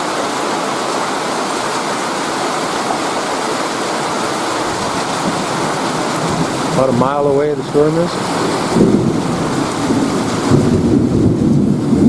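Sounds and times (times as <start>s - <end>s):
steady rain shower: 0.0s - 12.0s.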